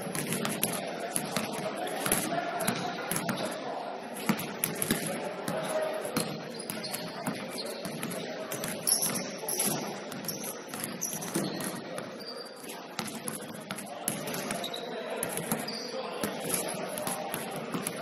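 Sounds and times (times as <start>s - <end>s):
players' voices: 0.0s - 18.0s
basketball bouncing: 0.1s - 3.6s, 4.3s - 12.1s, 13.0s - 18.0s
sneakers squeaking on floor: 2.6s - 3.6s, 4.3s - 18.0s.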